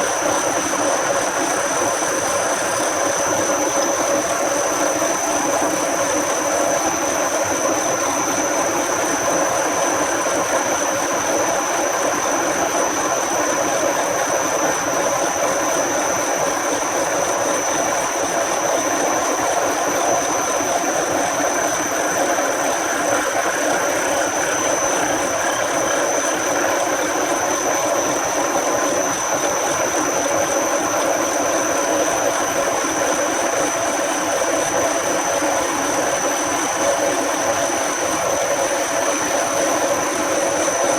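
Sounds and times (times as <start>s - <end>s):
high steady whine: 0.0s - 40.9s.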